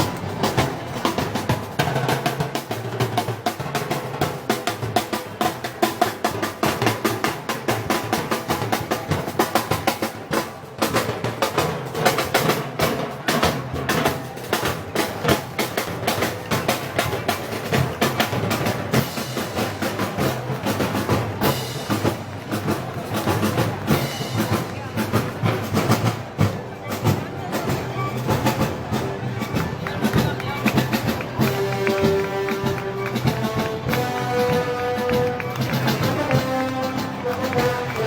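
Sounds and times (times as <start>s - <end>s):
drum strokes: 0.0s - 38.0s
festival band melody: 0.0s - 38.0s.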